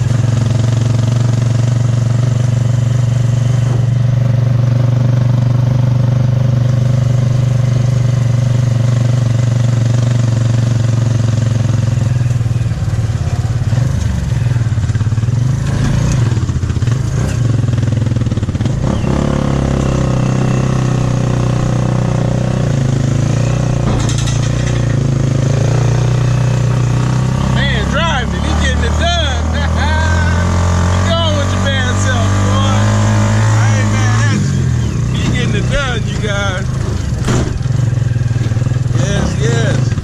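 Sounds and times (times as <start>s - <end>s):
motorcycle engine humming: 0.0s - 40.0s.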